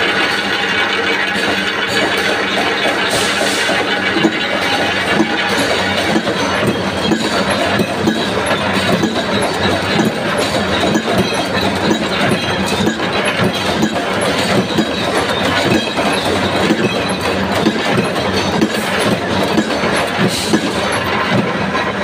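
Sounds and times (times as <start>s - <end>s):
gear noise: 0.1s - 21.4s.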